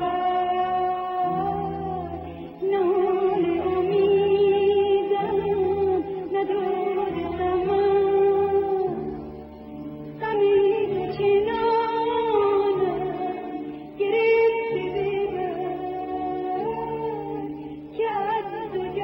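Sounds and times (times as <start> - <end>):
person singing: 0.0 - 9.4, 10.1 - 19.0
slow melody with vibrato: 0.0 - 19.0.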